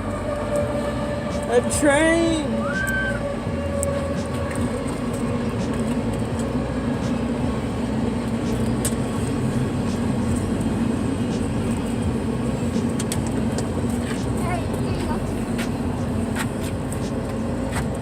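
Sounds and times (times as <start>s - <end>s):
train passing rumble: 0.0s - 18.0s.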